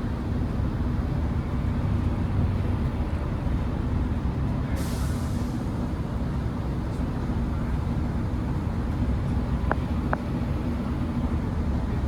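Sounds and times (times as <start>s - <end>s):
train diesel engine rumble: 0.0s - 12.0s.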